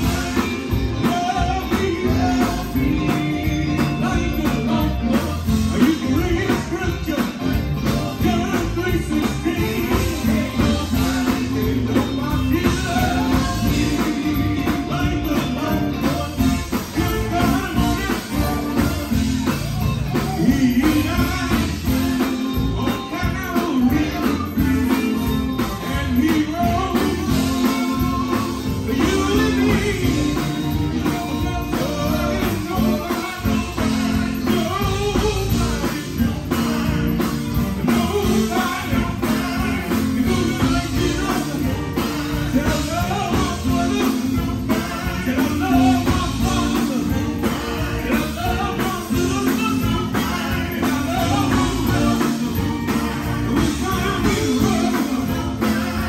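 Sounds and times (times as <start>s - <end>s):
band with guitar bass and drums: 0.0s - 56.0s
gospel quartet singing: 0.0s - 56.0s.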